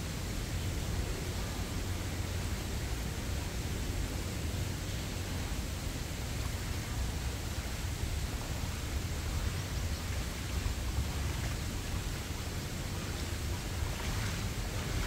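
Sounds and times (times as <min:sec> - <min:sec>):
stream water running: 0:00.0 - 0:15.0
wind rumble on microphone: 0:00.0 - 0:15.0.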